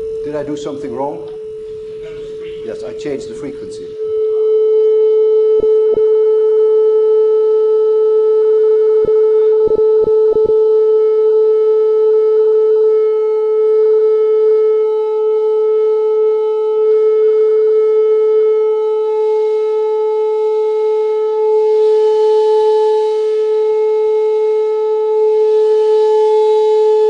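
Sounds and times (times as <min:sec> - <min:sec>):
loudspeaker single-pitch tone: 0:00.0 - 0:27.0.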